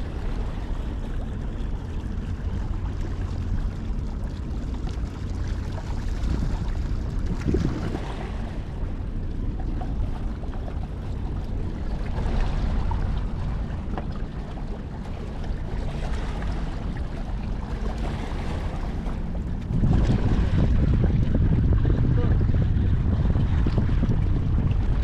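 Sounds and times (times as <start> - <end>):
low rumble: 0.0 - 25.0
water noise: 0.0 - 25.0
wind: 0.0 - 25.0.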